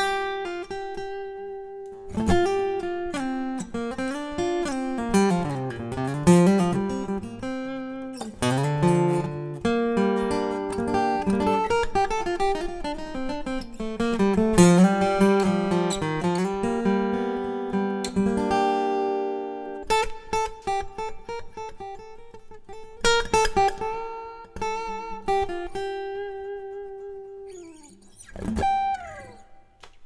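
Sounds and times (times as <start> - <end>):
acoustic guitar playing: 0.0 - 30.0
strummed guitar chords: 0.0 - 30.0.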